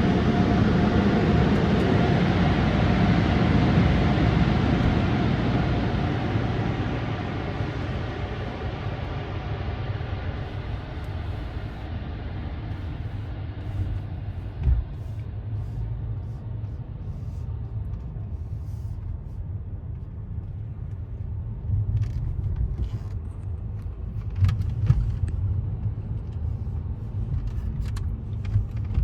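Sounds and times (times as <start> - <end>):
car rumbling: 0.0 - 29.0.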